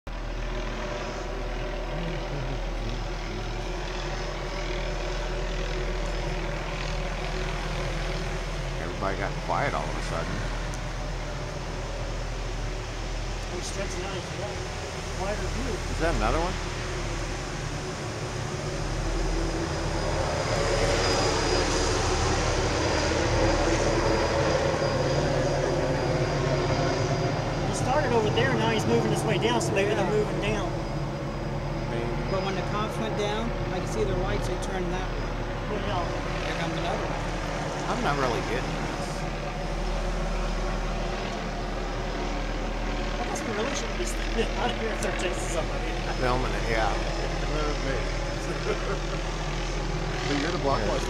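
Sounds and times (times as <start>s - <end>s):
helicopter rotor drone: 0.1s - 51.0s.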